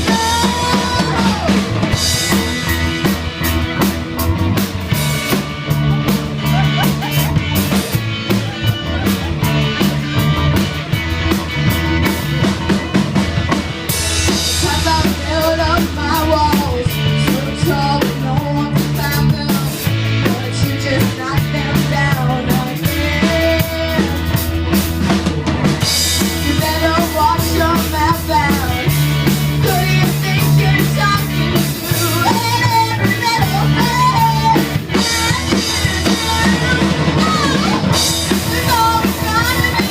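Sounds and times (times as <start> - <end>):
drum kit beat: 0.0 - 39.9
stepping bass line: 0.0 - 39.9.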